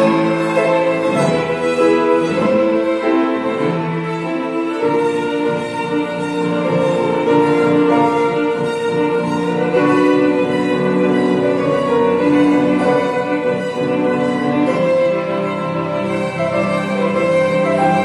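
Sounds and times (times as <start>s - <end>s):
piano accompaniment: 0.0s - 18.0s
violin melody: 0.0s - 18.0s.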